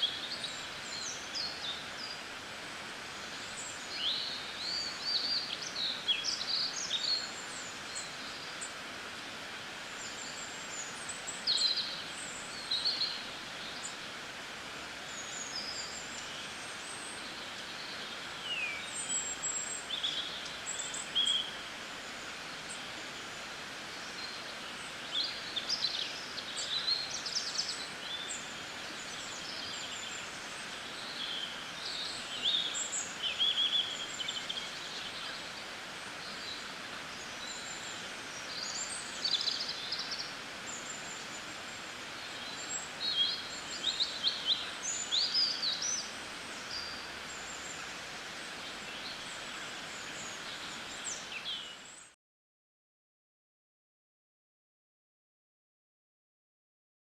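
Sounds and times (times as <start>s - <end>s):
outdoor background hiss: 0.0s - 52.2s
small birds chirping: 3.1s - 8.8s, 9.8s - 14.0s, 15.0s - 52.2s.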